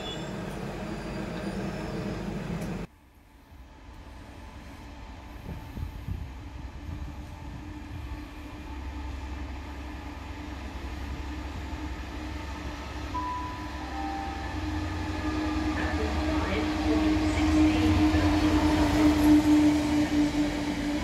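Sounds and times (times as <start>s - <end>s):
diesel locomotive engine: 0.0s - 21.0s
freight train rumble: 0.0s - 21.0s.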